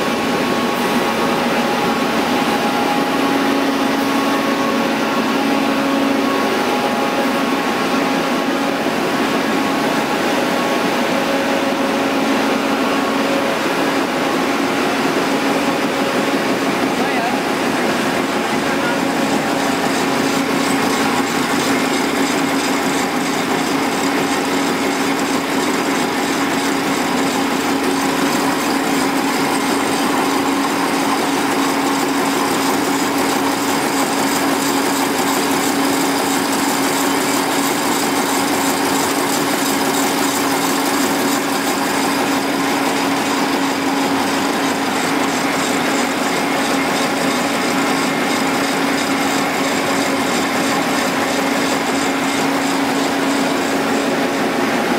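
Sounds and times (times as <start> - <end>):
printing press mechanical hum: 0.0 - 54.9.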